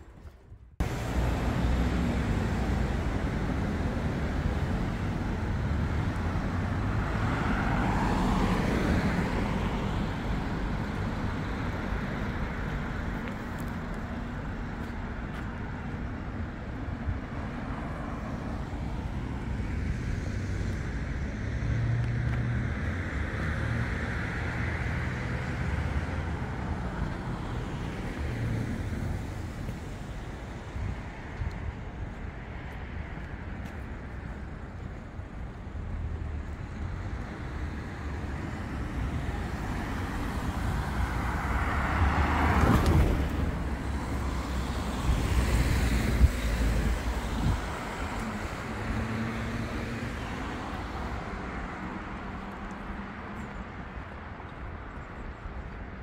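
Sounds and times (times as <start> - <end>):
cars passing: 0.0 - 56.0
city street noise: 0.0 - 56.0.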